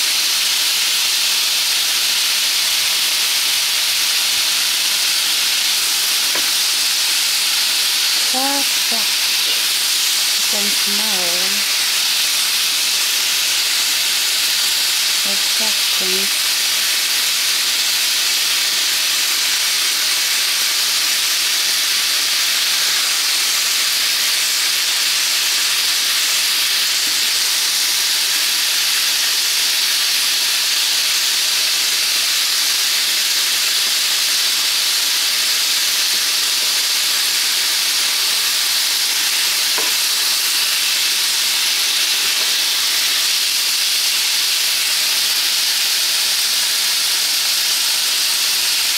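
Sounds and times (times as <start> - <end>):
chicken sizzling: 0.0 - 48.9.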